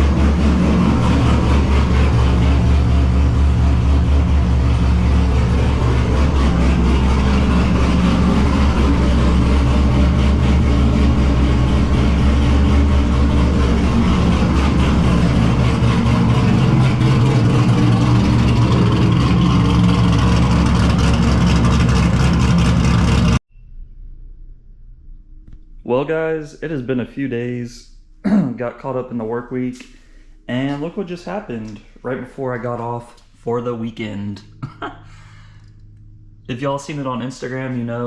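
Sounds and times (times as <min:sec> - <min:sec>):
car engine droning: 0:00.0 - 0:23.4, 0:25.2 - 0:38.0.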